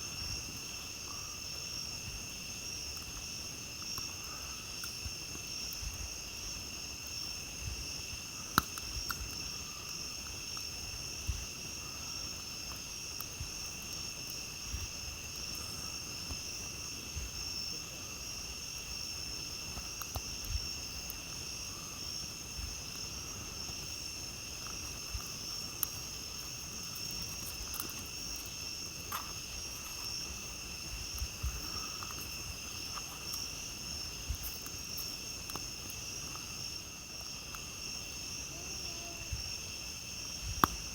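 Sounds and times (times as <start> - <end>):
campfire popping and crackling: 0.0 - 40.9
crickets singing: 0.0 - 40.9.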